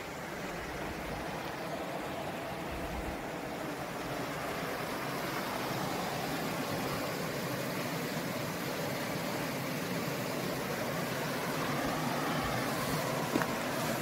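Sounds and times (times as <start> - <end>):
river rushing over rapids: 0.0 - 14.0.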